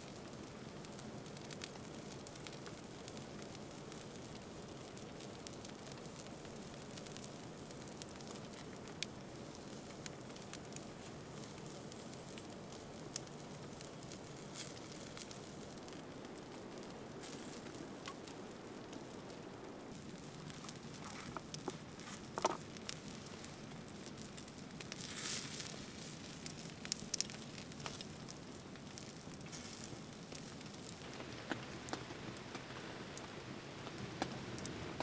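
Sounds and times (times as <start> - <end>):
campfire crackling and popping: 0.0 - 35.0
fire hissing: 0.0 - 35.0.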